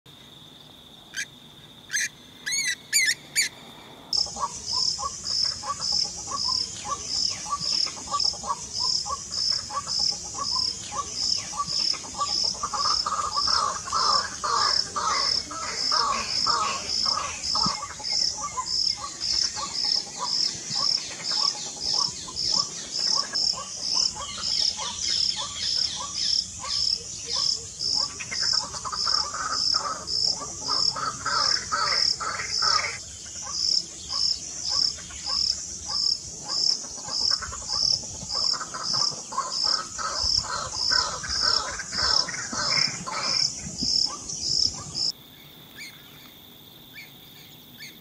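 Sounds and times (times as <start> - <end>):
insect chirping: 0.1 - 48.0
bird croaking calls: 1.9 - 45.1.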